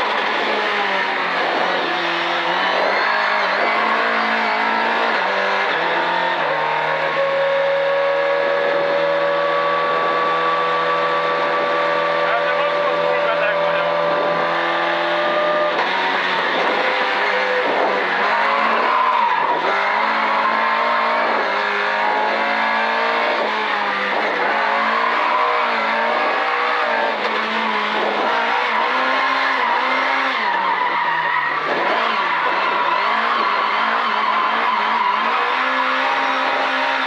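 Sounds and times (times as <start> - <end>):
race car engine revving: 0.0 - 37.0.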